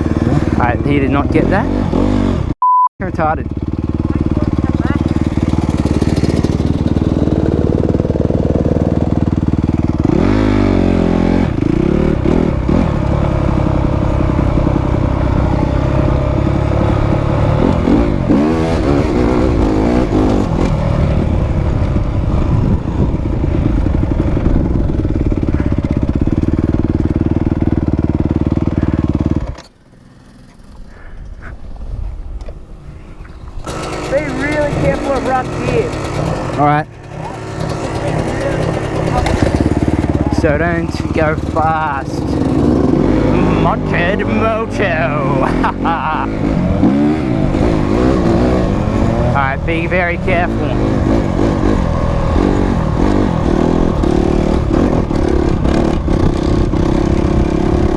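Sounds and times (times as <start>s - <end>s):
dirt bike engine revving: 0.0s - 31.2s, 33.4s - 57.9s.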